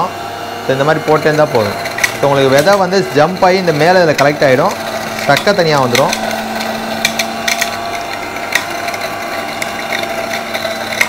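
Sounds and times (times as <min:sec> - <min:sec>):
electric juicer motor humming: 0:00.0 - 0:11.0
grapes rattling against blade: 0:01.1 - 0:11.0.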